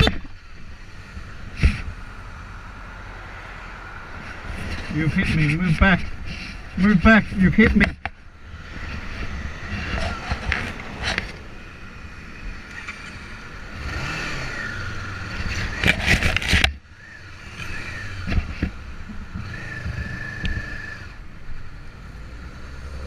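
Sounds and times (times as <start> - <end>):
vehicle engines revving: 0.0 - 23.0.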